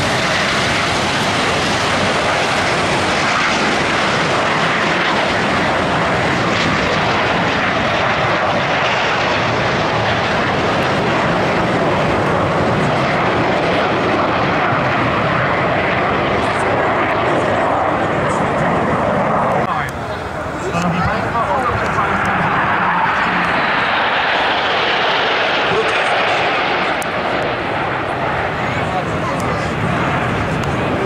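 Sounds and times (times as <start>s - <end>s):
jets flying past: 0.0s - 31.0s.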